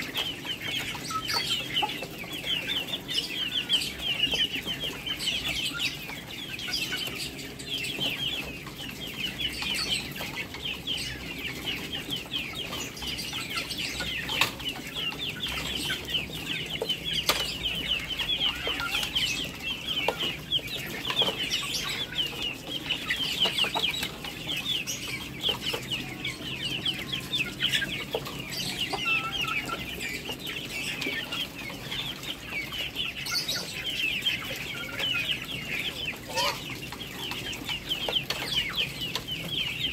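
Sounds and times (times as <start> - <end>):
bills pecking wet ground: 0.0 - 39.9
high-pitched peeping of poultry: 0.0 - 39.9.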